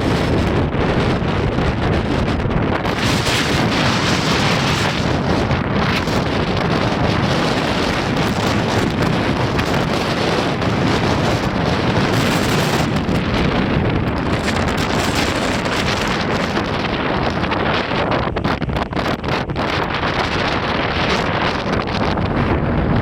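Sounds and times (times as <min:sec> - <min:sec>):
rough sea surf: 0:00.0 - 0:23.0
storm wind buffeting microphone: 0:00.0 - 0:23.0.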